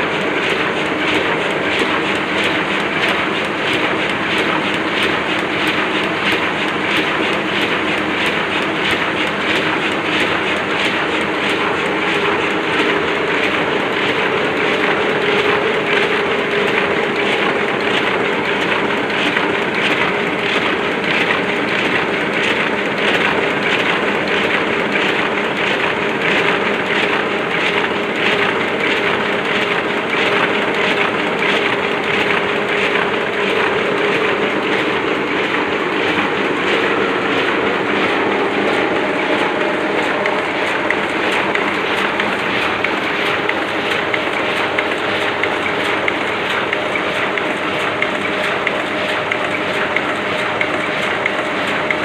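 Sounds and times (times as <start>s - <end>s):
mechanical hum: 0.0s - 52.0s
printing press clatter: 0.0s - 52.0s.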